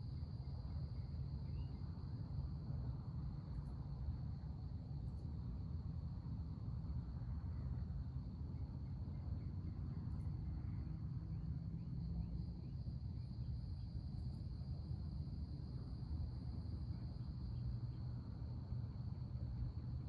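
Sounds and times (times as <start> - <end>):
crickets trilling: 0.0 - 20.0
low outdoor rumble: 0.0 - 20.0.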